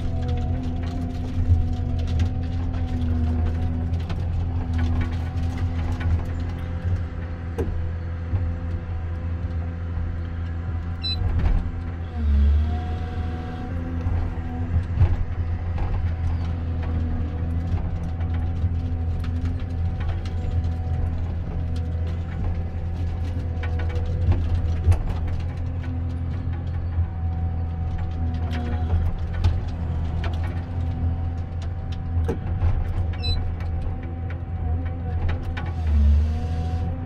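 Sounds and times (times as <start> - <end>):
harvester diesel engine and hydraulics: 3.0 - 37.0.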